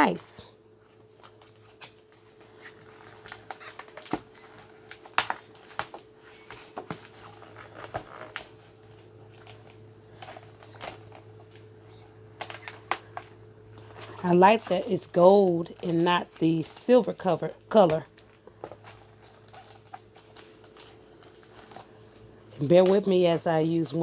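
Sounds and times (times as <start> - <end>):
faint steady hum: 0.0 - 24.0
magnetic mat and packaging rustling: 0.0 - 24.0.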